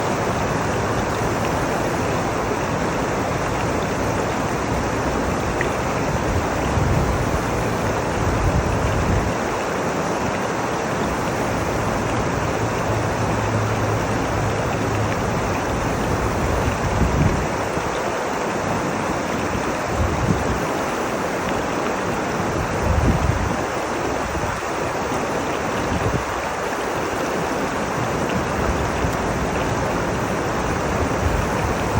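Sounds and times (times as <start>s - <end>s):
water rushing over rocks: 0.0s - 31.9s.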